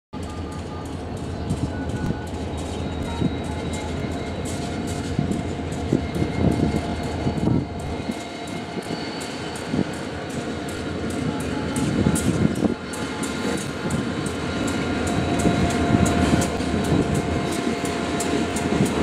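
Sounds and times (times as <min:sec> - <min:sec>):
freight train rumble: 0:00.2 - 0:19.0
rail clicks and clanks: 0:00.2 - 0:19.0.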